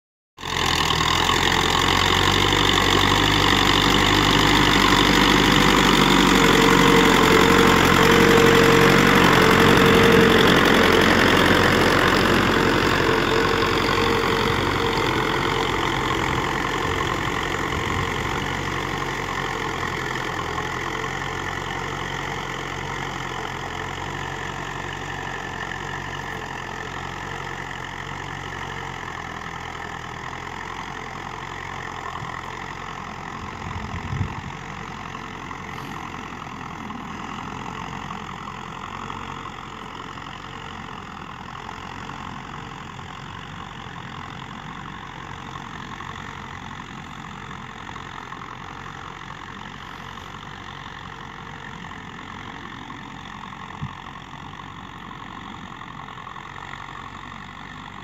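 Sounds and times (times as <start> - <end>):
tractor diesel engine running: 0.4 - 58.0.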